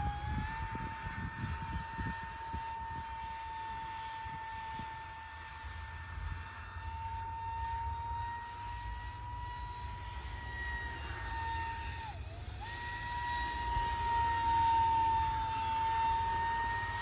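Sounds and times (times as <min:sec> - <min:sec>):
electric fan whining: 0:00.0 - 0:17.0.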